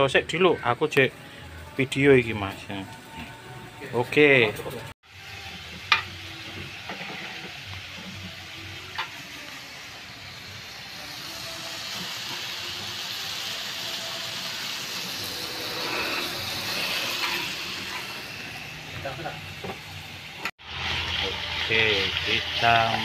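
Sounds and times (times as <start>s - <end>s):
meat and onions sizzling on grill: 0.0s - 23.0s.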